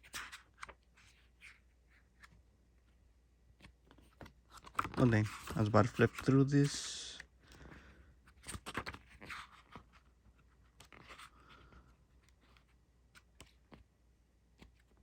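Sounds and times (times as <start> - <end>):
book pages turning: 0.0 - 2.4, 3.5 - 7.3, 8.3 - 13.9, 14.5 - 15.0.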